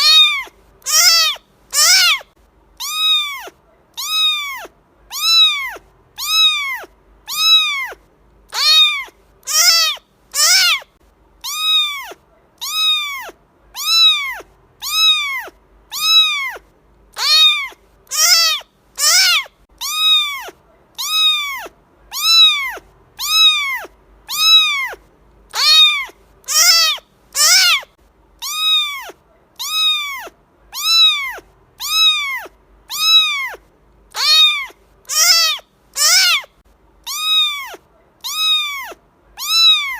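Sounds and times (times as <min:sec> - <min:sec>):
cat meowing: 0:00.0 - 0:39.9.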